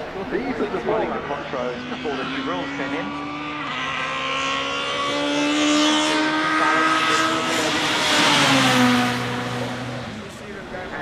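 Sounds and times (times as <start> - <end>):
race car engine passing by: 0.0 - 11.0.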